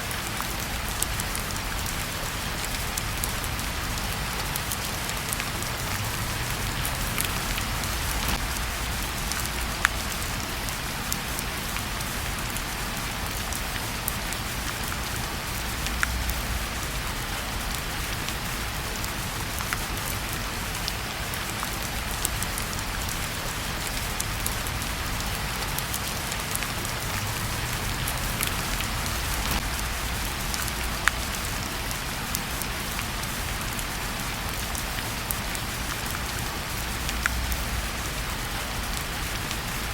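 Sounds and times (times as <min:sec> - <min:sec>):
steady rain falling: 0:00.0 - 0:39.9
wood fire crackling: 0:00.0 - 0:39.9.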